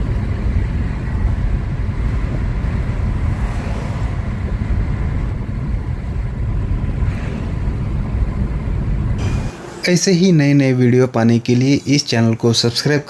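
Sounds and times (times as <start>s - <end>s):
wind buffeting: 0.0s - 12.7s
tyre and road noise: 0.0s - 13.0s.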